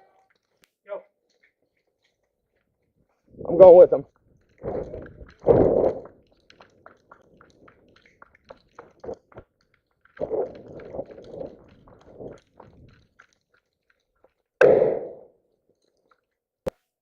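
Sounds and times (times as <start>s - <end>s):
small clicks and crunching: 0.1s - 3.3s, 4.0s - 14.6s, 15.7s - 16.4s.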